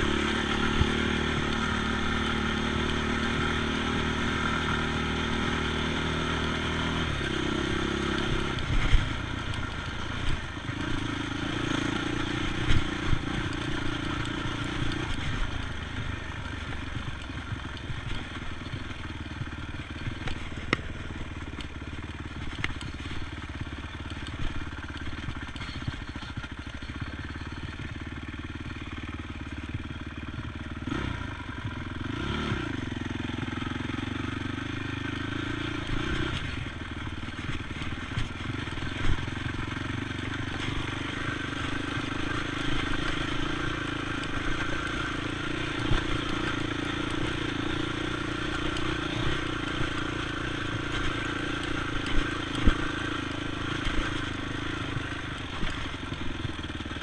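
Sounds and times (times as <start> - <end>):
atv engine running: 0.0 - 57.0
knocks and clatter over rough ground: 0.0 - 57.0.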